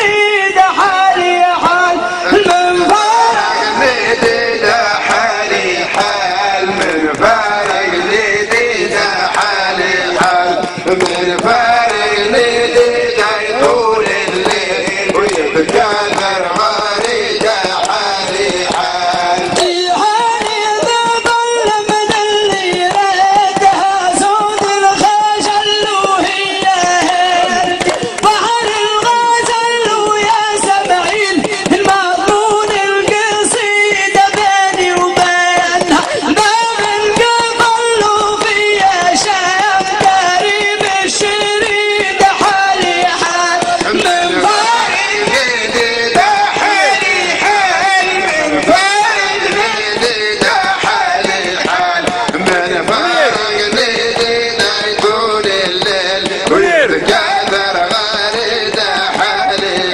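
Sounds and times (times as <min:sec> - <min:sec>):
hand drum beat: 0:00.0 - 0:59.9
man singing into microphone: 0:00.0 - 0:59.9.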